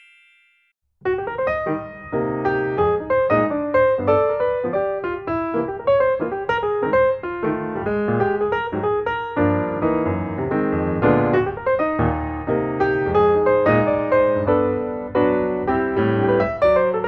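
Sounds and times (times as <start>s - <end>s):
piano music: 1.0s - 17.0s.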